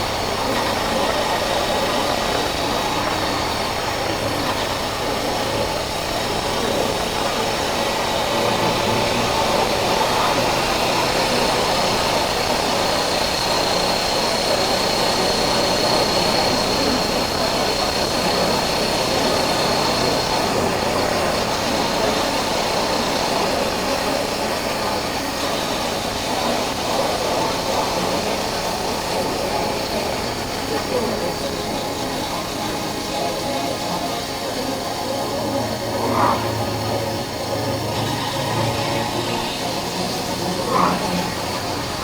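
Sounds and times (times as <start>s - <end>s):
faint high whine: 0.0s - 42.0s
motorcycle engine running: 0.0s - 42.0s.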